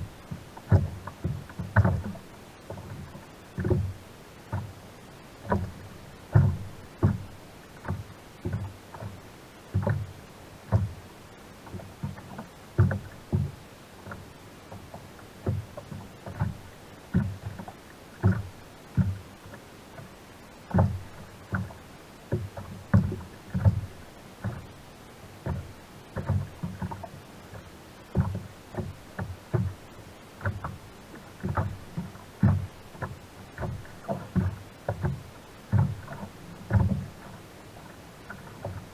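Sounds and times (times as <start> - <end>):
waves slapping kayak hull: 0.0 - 38.9.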